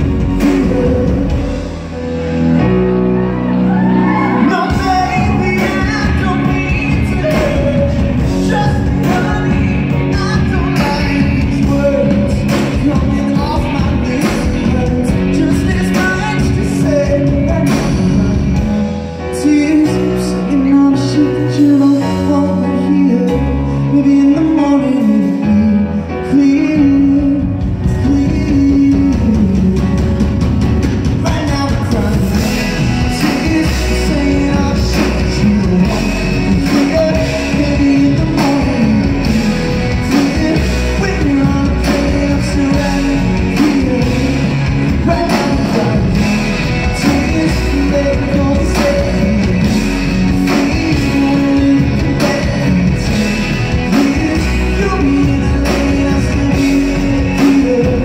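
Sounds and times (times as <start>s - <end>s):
electric guitar: 0.0s - 58.0s
keyboards: 0.0s - 58.0s.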